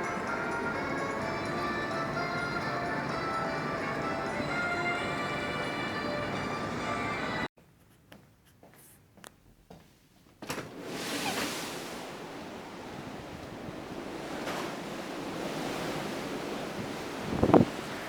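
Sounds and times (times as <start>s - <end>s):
sea: 0.0s - 7.4s, 10.5s - 18.0s
wind: 0.0s - 7.5s, 8.1s - 18.0s.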